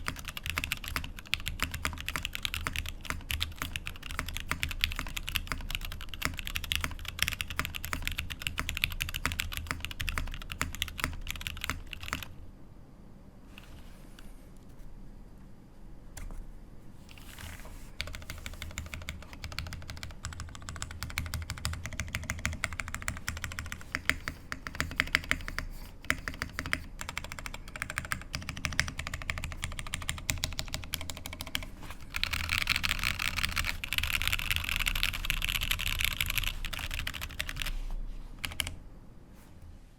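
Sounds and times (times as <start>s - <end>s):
mechanical keyboard typing: 0.0s - 12.4s, 18.0s - 37.8s, 38.4s - 38.8s.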